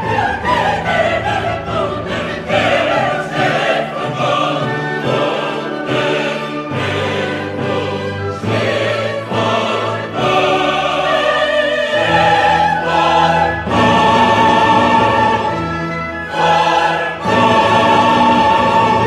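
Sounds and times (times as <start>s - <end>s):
slow choral and orchestral music: 0.0s - 19.0s.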